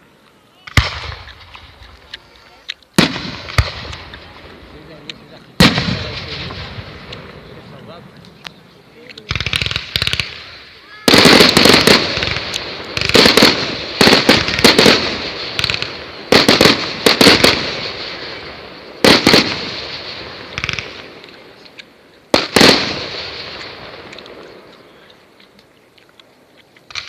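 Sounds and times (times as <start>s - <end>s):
fireworks exploding bangs: 0.6s - 2.1s, 3.0s - 25.0s.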